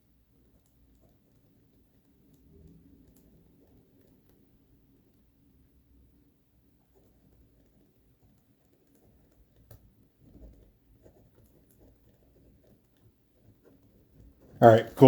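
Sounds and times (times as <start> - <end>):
faint clicks and taps: 0.0 - 6.1, 6.7 - 15.0.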